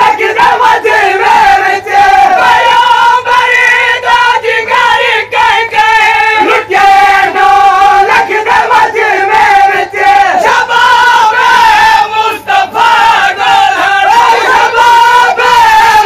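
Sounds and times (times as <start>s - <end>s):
lead reciter: 0.0s - 16.0s
men singing in unison: 0.0s - 16.0s.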